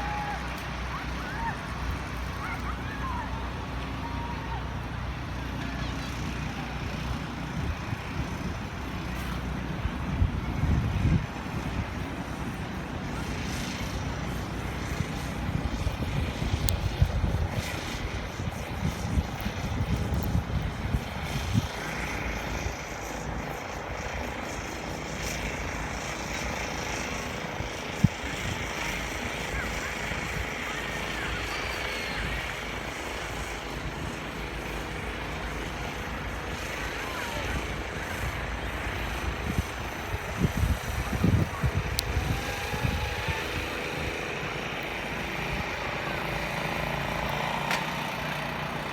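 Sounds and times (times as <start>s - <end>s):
city rumble: 0.0s - 48.9s.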